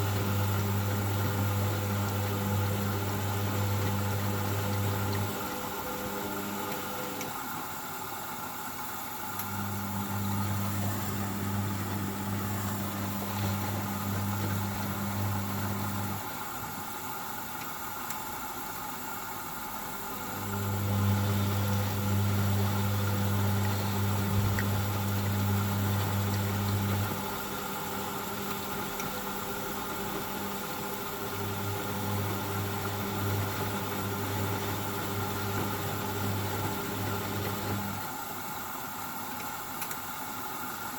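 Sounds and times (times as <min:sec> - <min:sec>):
washing machine motor humming: 0:00.0 - 0:40.9.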